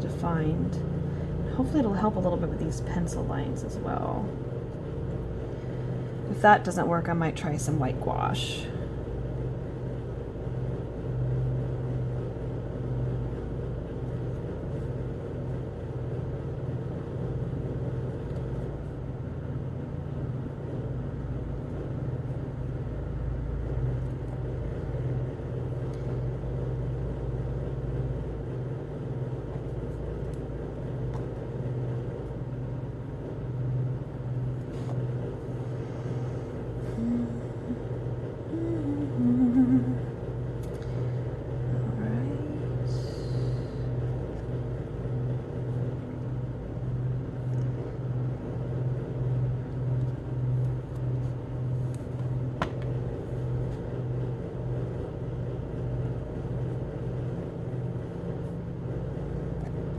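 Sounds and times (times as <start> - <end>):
low rumble: 0.0 - 59.9
steady low hum: 0.0 - 59.9.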